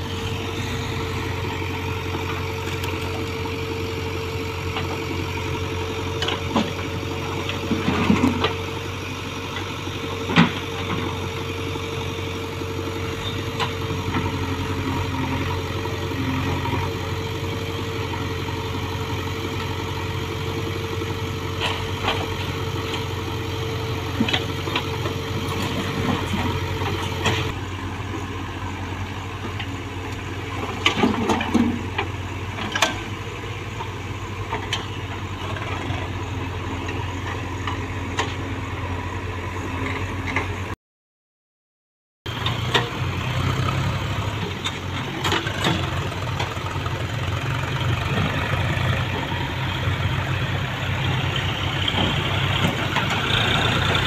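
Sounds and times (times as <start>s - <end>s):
diesel engines running: 0.0s - 40.8s, 42.3s - 54.0s.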